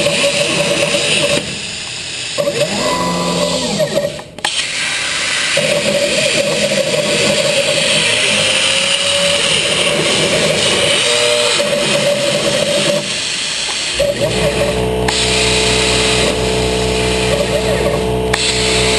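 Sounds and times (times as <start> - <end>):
machine whine: 0.0 - 4.6, 5.4 - 18.9
plasma cutting hiss: 0.0 - 14.0, 15.1 - 17.6, 18.3 - 18.9.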